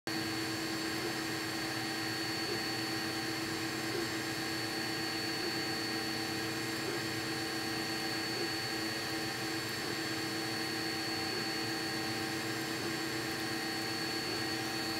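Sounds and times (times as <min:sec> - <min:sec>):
three d printer whirring: 0:00.1 - 0:14.9.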